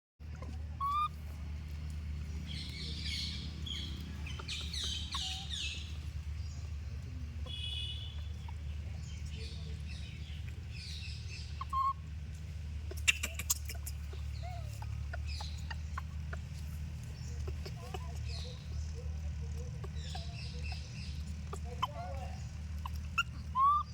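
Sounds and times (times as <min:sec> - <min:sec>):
birds chirping: 0:00.2 - 0:23.9
steady low hum: 0:00.2 - 0:23.9.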